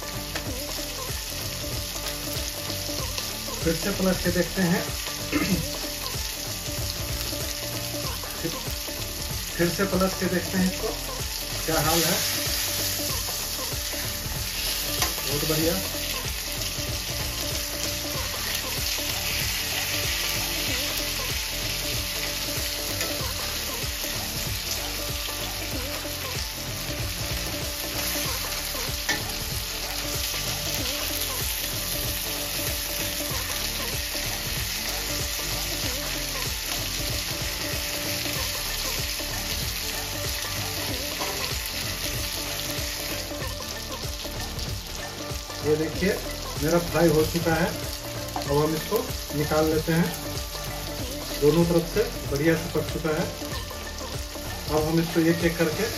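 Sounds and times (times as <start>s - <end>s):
fish sizzling in a pan: 0.0s - 55.9s.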